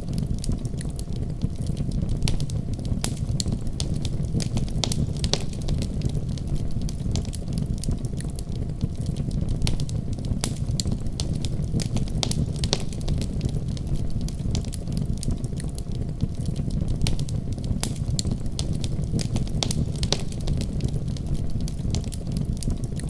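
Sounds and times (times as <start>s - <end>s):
low rumble of flame: 0.0s - 23.0s
wood fire crackling and popping: 0.0s - 23.0s.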